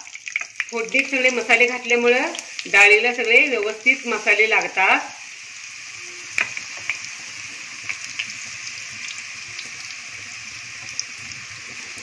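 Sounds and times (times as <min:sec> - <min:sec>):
hot oil sizzling in a pan: 0:00.0 - 0:12.0.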